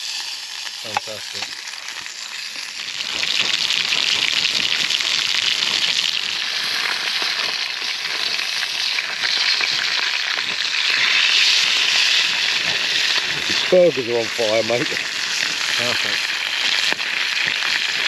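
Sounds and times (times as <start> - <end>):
burgers sizzling in a frying pan: 0.0 - 18.0.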